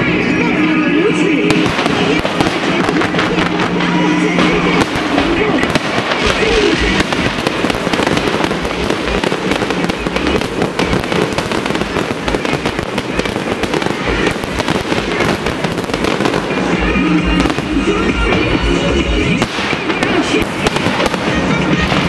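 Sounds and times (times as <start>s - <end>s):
fireworks bangs and crackles: 0.0s - 22.0s
music: 0.0s - 22.0s.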